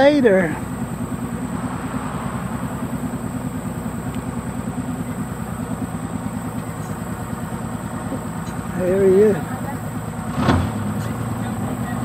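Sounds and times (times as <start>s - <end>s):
outboard motor puttering: 0.0s - 12.0s.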